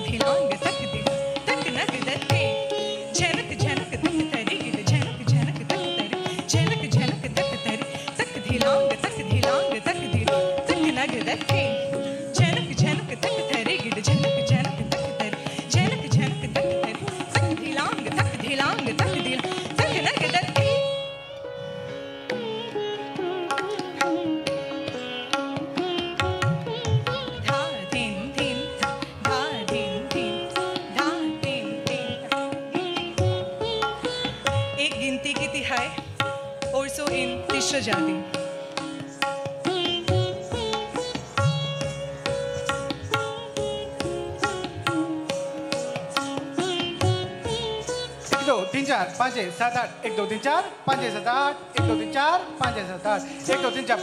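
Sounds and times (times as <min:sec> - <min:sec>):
sitar: 0:00.0 - 0:54.0
tabla drumming: 0:00.0 - 0:54.0.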